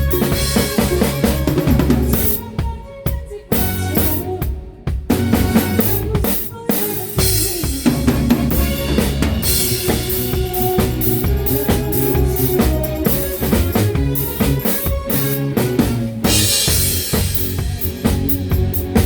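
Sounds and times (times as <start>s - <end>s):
bass drum and snare beat: 0.0s - 19.0s
live band playing: 0.0s - 19.0s.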